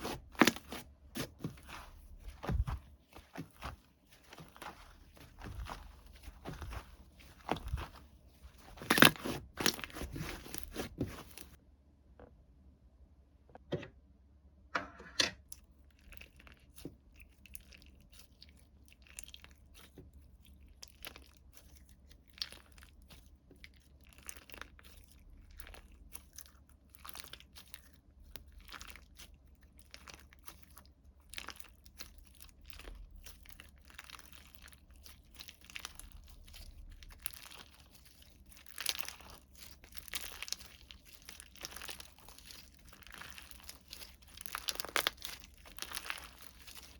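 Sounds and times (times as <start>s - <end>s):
crinkling and crunching slime: 0.0s - 11.6s, 15.5s - 46.9s.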